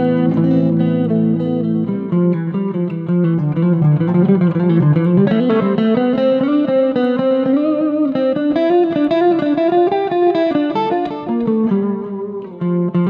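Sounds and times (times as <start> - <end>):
guitar picking: 0.0 - 13.0.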